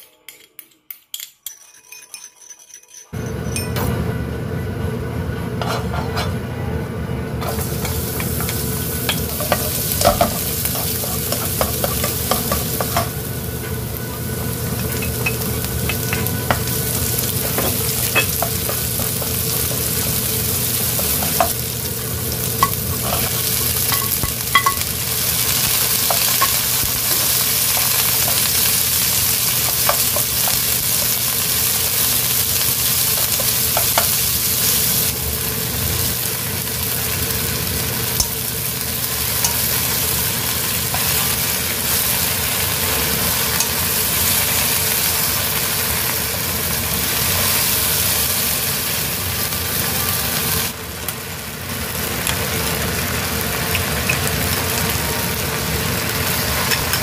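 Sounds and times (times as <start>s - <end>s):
vegetables sizzling in oil: 7.3s - 57.0s.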